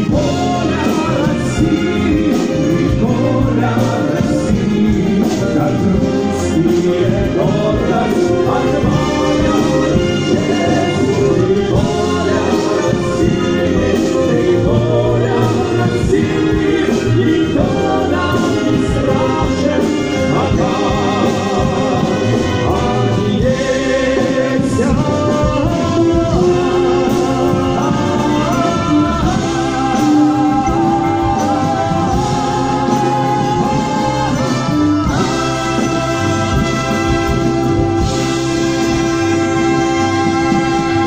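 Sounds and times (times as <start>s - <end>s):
brass bands playing: 0.0s - 41.0s
people singing: 0.0s - 41.0s.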